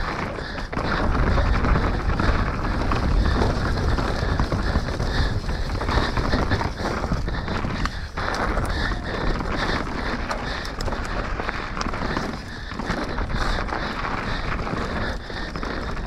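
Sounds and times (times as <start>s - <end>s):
bike clattering over bumps: 0.0s - 16.0s
tyres rolling over dirt and rocks: 0.0s - 16.0s
wind rushing over microphone: 0.0s - 16.0s.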